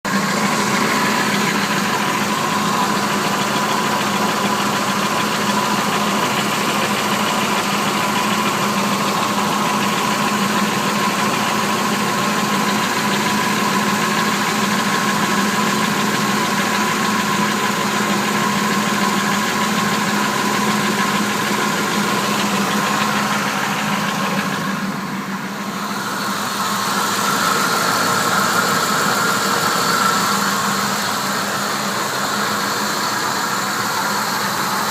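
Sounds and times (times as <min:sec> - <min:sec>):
engine running: 0:00.0 - 0:34.9
engine ticking: 0:00.0 - 0:34.9.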